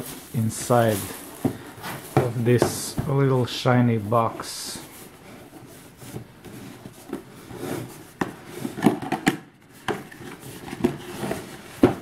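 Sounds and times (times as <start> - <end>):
cardboard rubbing and sliding: 0.0 - 8.9, 9.7 - 12.0.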